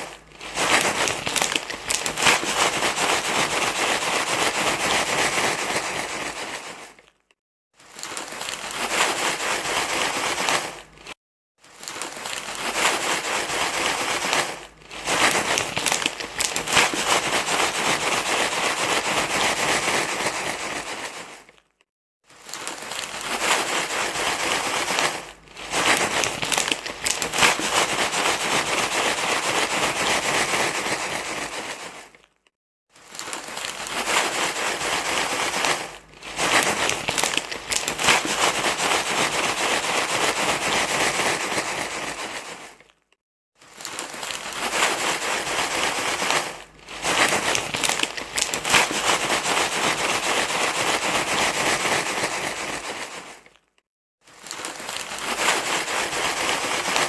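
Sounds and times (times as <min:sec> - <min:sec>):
dense rustling and crinkling: 0:00.0 - 0:57.0.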